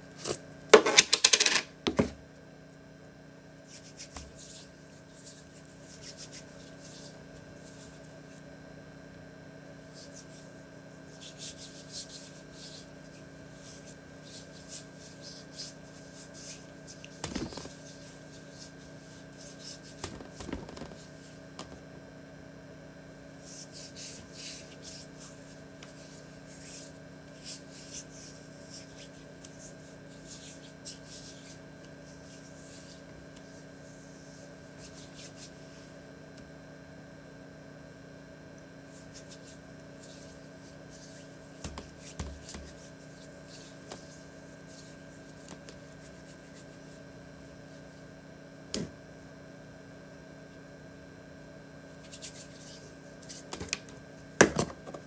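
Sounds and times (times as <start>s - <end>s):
steady electrical hum: 0.0s - 55.0s.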